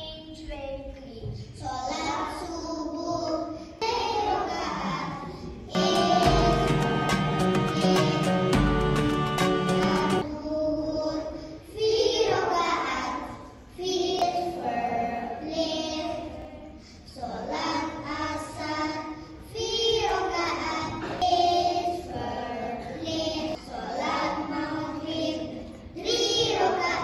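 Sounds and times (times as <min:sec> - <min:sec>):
children singing into microphone: 0:01.3 - 0:27.0.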